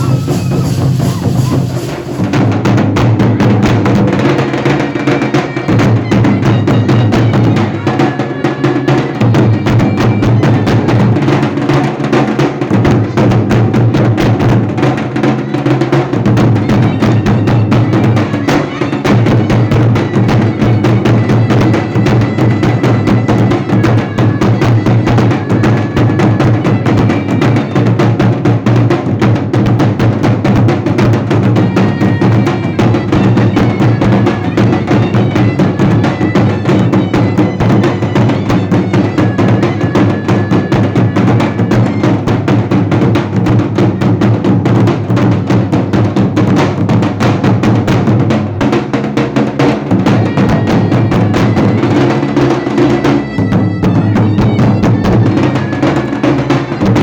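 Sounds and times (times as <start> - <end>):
drums playing fast strokes: 0.0 - 57.0.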